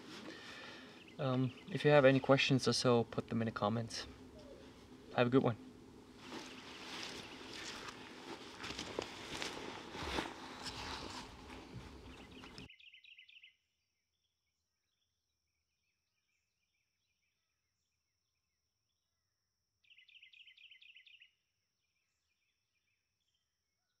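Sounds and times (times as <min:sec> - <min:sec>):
faint birdsong chirps: 0:00.0 - 0:24.0
outdoor noise: 0:00.0 - 0:24.0.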